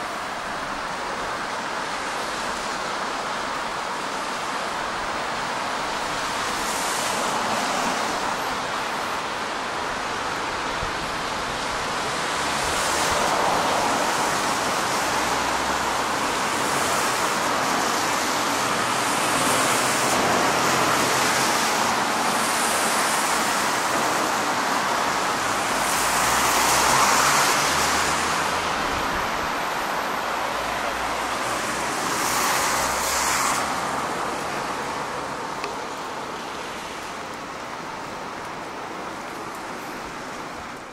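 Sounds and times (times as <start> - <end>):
cars passing: 0.0 - 40.9.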